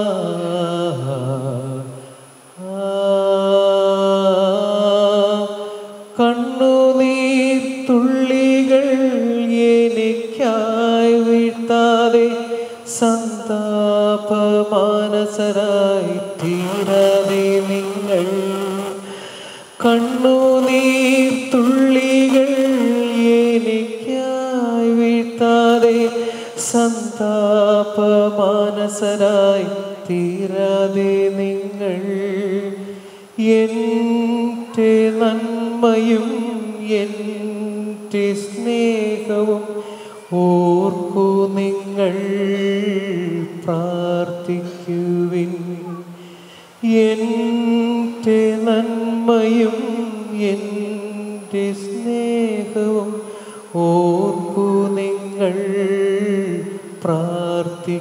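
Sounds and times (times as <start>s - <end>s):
devotional hymn sung with music: 0.0s - 58.0s.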